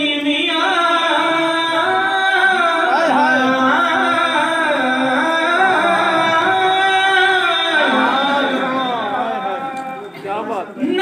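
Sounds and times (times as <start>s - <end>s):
man singing into microphone: 0.0s - 10.1s.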